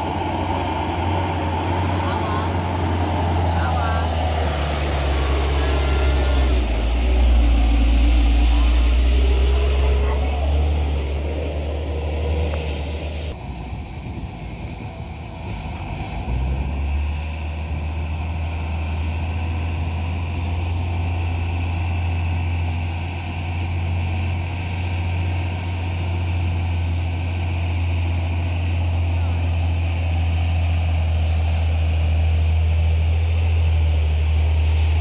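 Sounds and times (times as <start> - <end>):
truck diesel engine droning: 0.0 - 35.0.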